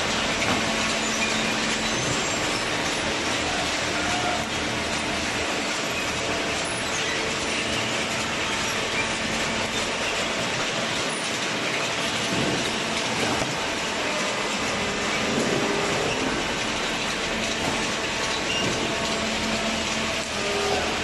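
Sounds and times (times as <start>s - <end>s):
baler machine running: 0.0s - 21.0s.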